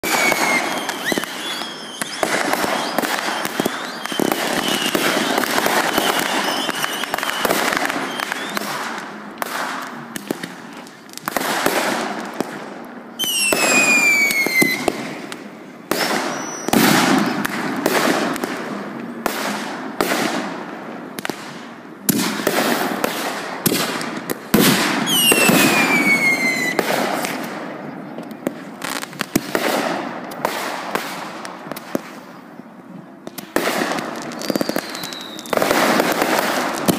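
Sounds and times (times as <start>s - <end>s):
fireworks crackling and popping: 0.0s - 36.9s
whistling fireworks: 0.0s - 36.9s.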